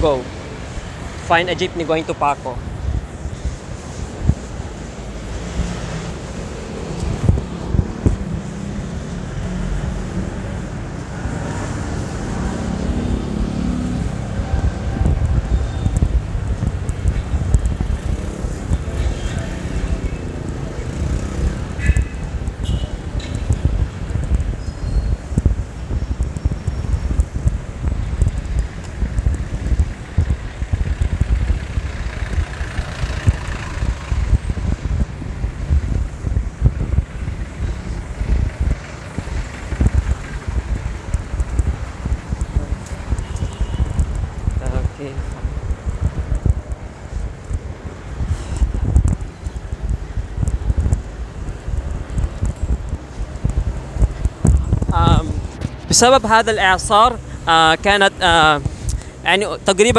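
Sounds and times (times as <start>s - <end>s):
street traffic: 0.0s - 59.9s
vehicles passing: 0.0s - 59.9s
wind buffeting microphone: 0.0s - 59.9s.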